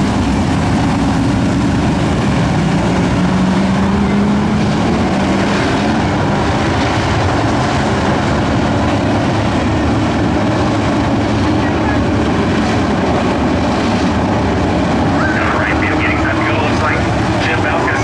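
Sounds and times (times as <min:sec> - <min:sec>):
race truck engines droning: 0:00.0 - 0:18.0.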